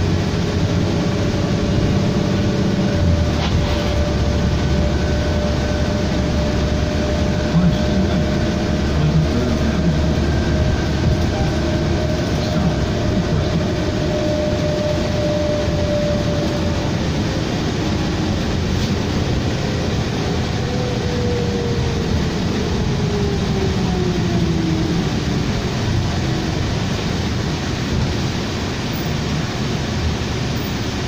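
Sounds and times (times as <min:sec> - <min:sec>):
bus engine and road drone: 0:00.0 - 0:31.0.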